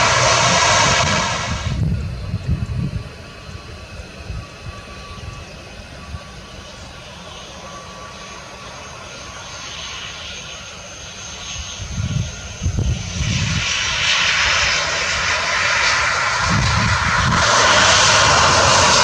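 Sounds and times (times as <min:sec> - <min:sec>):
turboprop engines whining: 0:00.0 - 0:19.0.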